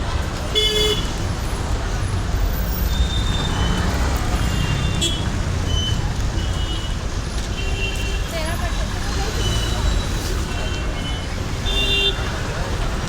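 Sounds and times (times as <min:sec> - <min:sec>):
faint crowd voices: 0:00.0 - 0:13.0
road traffic rumble: 0:00.0 - 0:13.0.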